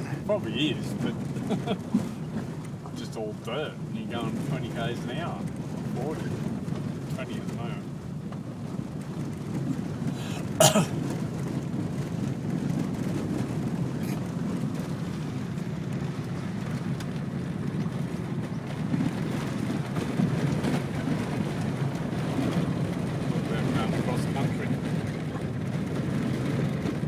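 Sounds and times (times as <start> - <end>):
car rumbling on dirt track: 0.0 - 27.0.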